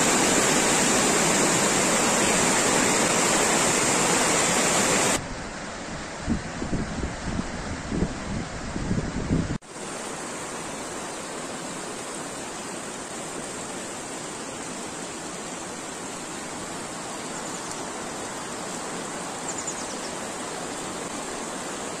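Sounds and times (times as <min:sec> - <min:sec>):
river rushing over boulders: 0:00.0 - 0:06.2, 0:09.6 - 0:22.0.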